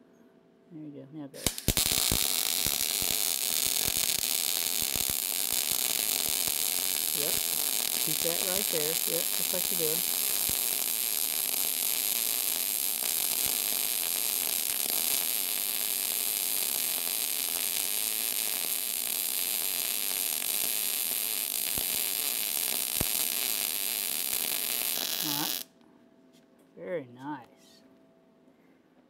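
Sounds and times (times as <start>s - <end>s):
welder arc hissing crackle: 1.4s - 25.7s.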